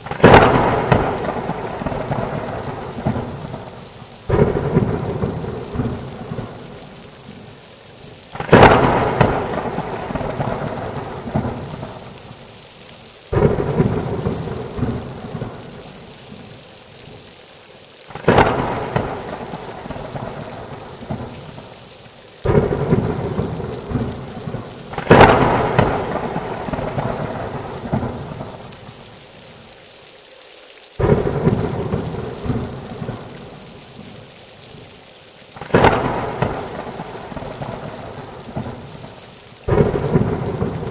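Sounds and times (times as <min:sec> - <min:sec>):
thunder rumbling: 0:00.0 - 0:07.6, 0:08.3 - 0:12.4, 0:13.3 - 0:16.5, 0:18.1 - 0:21.8, 0:22.4 - 0:29.0, 0:31.0 - 0:33.8, 0:35.6 - 0:40.9
heavy rain: 0:00.0 - 0:40.9.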